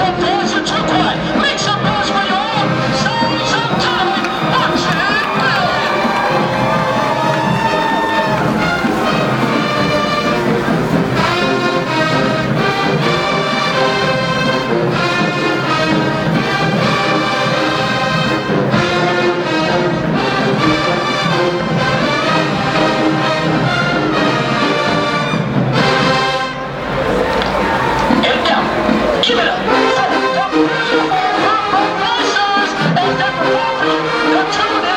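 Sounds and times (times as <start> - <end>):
marching band playing: 1.2 - 34.9.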